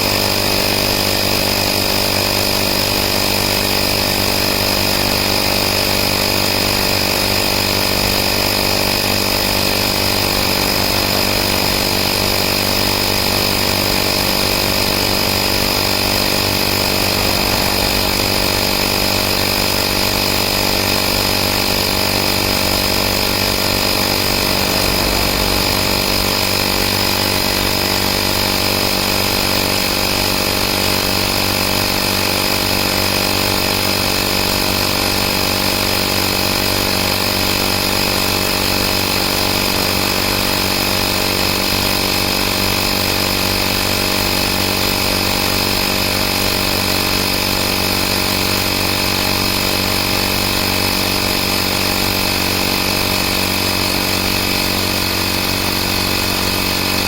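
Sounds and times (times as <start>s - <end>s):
air compressor humming: 2.2s - 57.0s.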